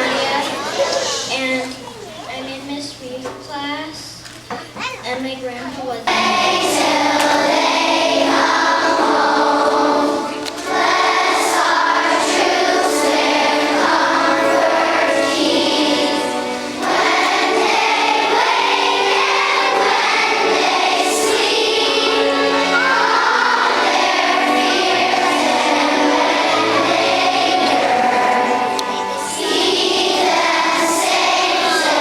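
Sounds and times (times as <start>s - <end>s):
children's choir singing: 0.0s - 2.0s, 6.0s - 32.0s.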